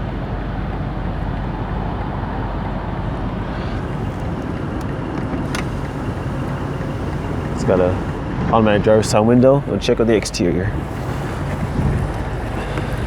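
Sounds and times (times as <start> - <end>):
car engine idling from inside: 0.0 - 13.0.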